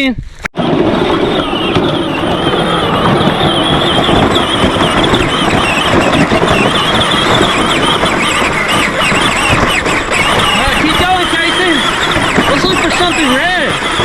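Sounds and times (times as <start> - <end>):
toy tractor wheels rumbling: 0.6 - 14.0
wavering high squeal: 0.6 - 14.0.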